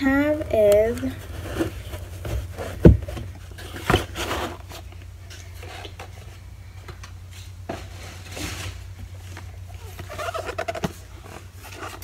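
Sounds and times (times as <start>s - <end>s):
packaging rustling and scraping: 0.6s - 6.4s, 7.4s - 12.0s.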